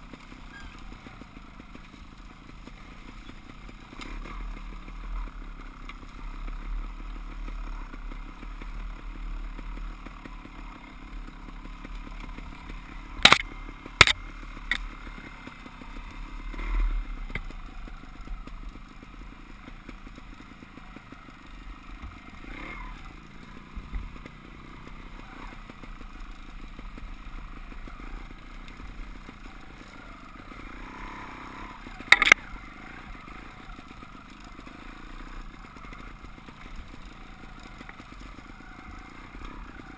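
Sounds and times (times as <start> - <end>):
dirt bike engines droning: 0.0 - 39.9.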